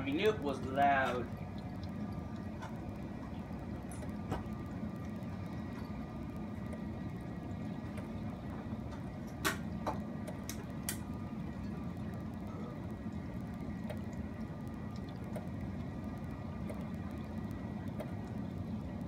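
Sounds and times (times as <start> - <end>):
sharp drip ticks: 0.0 - 19.0
steady rain falling: 0.0 - 19.0.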